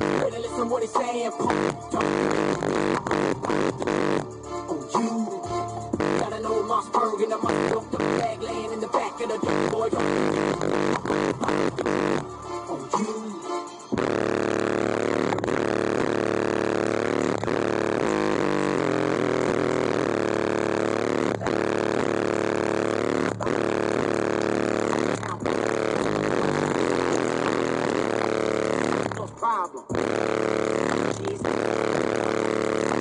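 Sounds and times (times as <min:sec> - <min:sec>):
loud subwoofer bass drone: 0:00.0 - 0:13.0, 0:13.9 - 0:33.0.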